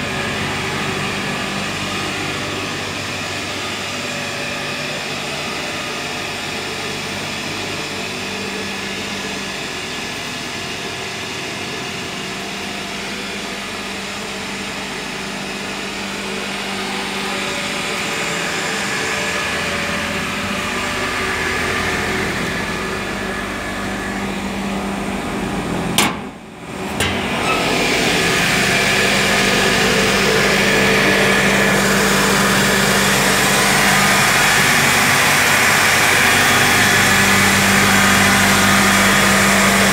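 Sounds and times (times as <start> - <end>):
machinery hum and whir: 0.0 - 39.9.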